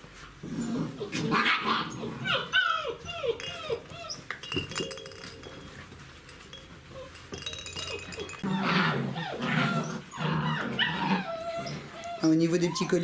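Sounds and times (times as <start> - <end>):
puppies yelping and whining: 0.4 - 4.9, 6.9 - 13.0.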